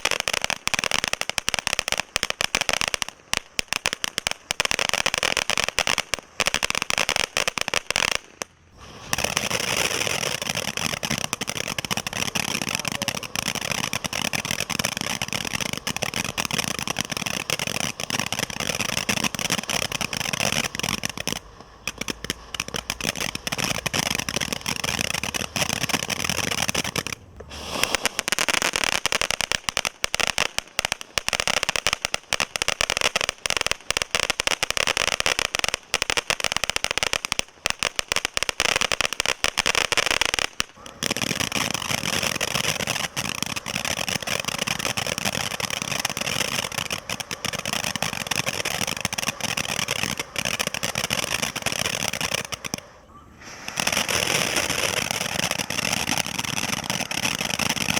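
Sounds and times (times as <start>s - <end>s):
fireworks crackling: 0.0s - 57.9s.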